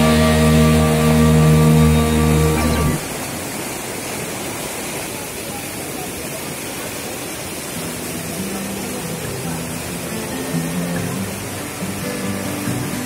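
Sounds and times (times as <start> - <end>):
river white water rushing: 0.0 - 13.0.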